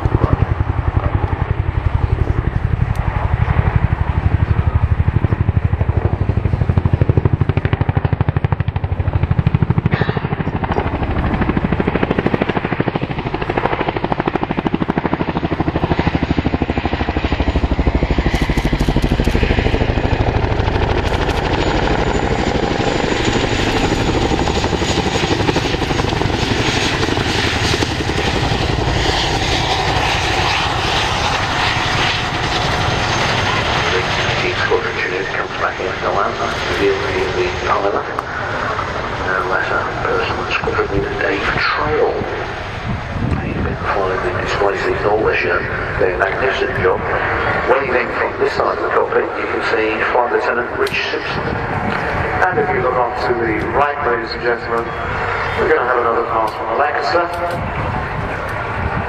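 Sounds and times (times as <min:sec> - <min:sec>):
helicopter rotors beating: 0:00.0 - 0:59.0
turbine engines: 0:00.0 - 0:59.0.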